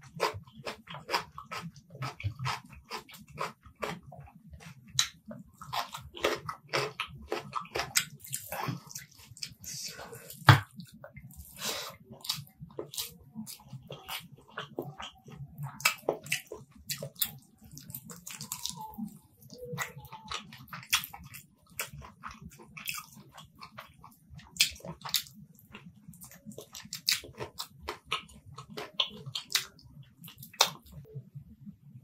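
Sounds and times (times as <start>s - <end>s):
person chewing: 0.0s - 31.1s.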